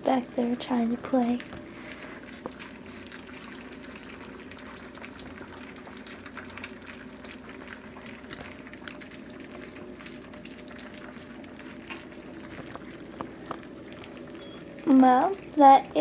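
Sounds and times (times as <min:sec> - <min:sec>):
puppies lapping wet food: 0:00.0 - 0:16.0.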